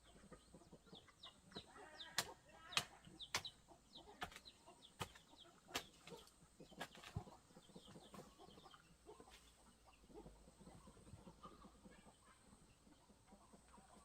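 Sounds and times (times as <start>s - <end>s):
chickens clucking and peeping: 0.0s - 14.0s.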